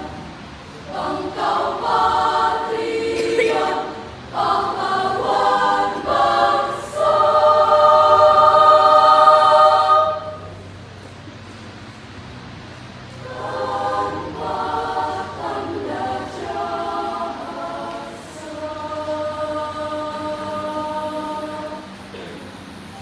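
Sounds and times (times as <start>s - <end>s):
choir singing in parts: 0.0s - 10.7s, 13.1s - 23.0s.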